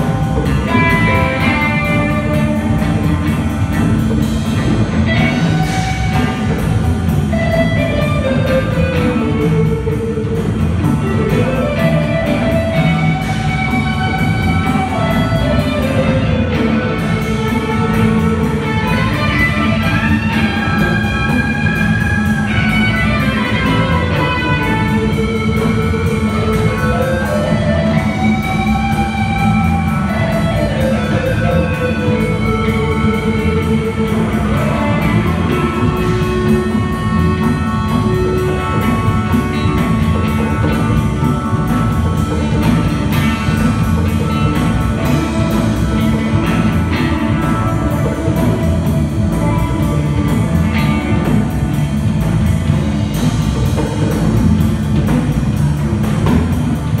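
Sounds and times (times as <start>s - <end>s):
drums: 0.0s - 57.0s
electric guitar lead: 0.0s - 57.0s
low backing: 0.0s - 57.0s.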